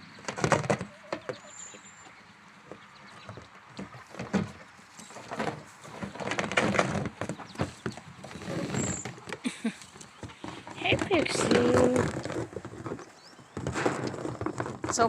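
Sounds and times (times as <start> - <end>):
goat hooves clattering: 0.0 - 15.0.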